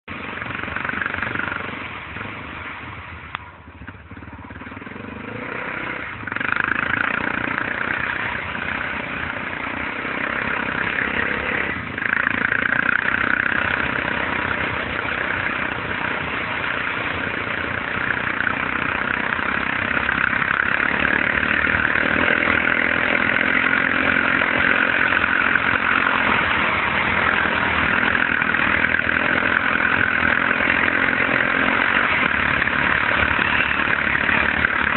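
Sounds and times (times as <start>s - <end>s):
atv engine running under load: 0.0s - 34.9s.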